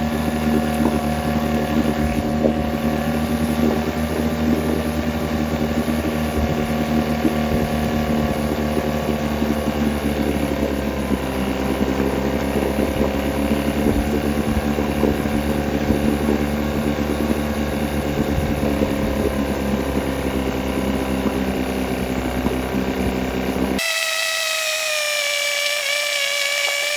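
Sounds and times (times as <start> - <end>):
outboard motor running: 0.0 - 26.9.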